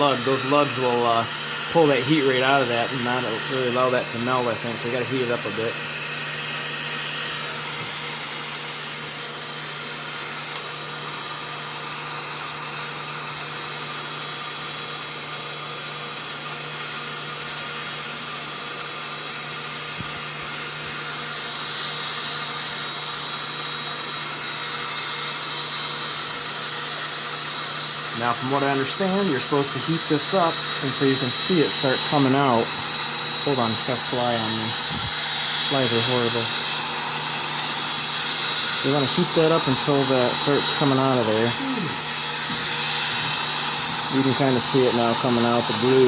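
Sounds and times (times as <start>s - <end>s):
heat gun fan rushing: 0.0s - 46.0s.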